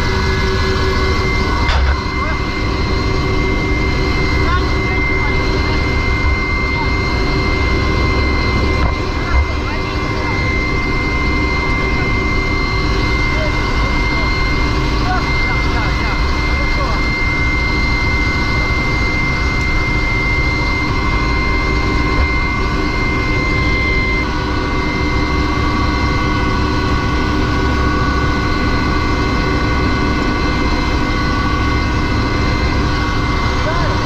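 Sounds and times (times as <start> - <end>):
helicopter turbine engines and rotor: 0.0 - 34.0.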